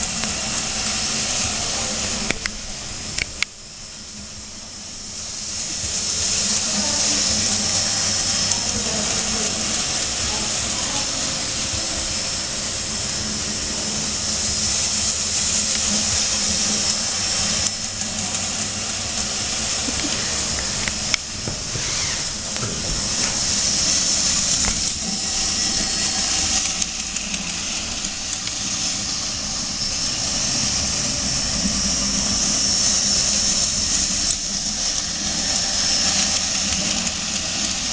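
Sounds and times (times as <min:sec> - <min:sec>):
model train running on track: 0:00.0 - 0:37.9.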